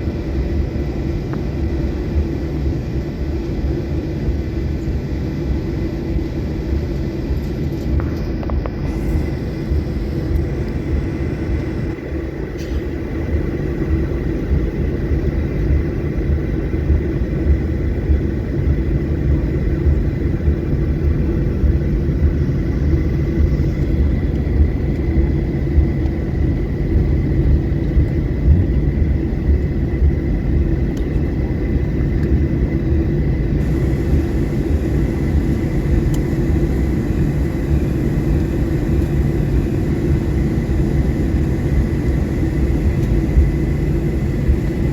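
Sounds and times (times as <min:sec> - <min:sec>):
low engine rumble: 0:00.0 - 0:44.9
high whine: 0:07.9 - 0:44.9.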